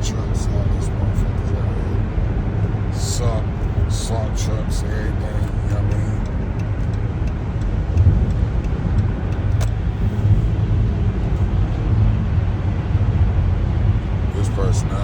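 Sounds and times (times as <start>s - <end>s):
car driving at highway speed: 0.0s - 15.0s.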